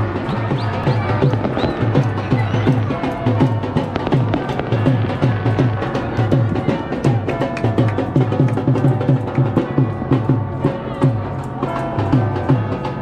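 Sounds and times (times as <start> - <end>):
music with drum beat and bass: 0.0 - 13.0.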